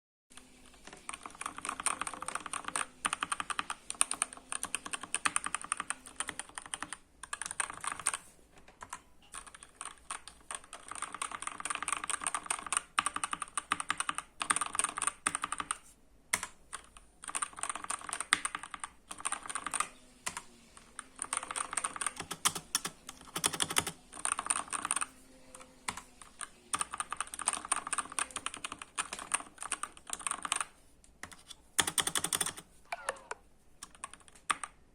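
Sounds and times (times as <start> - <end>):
fast typing on a keyboard: 0.6 - 32.7, 33.8 - 34.8.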